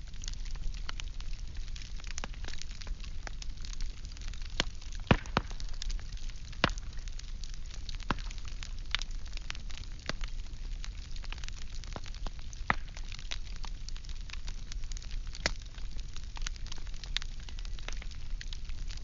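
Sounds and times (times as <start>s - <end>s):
firewood crackling and popping: 0.0s - 19.0s.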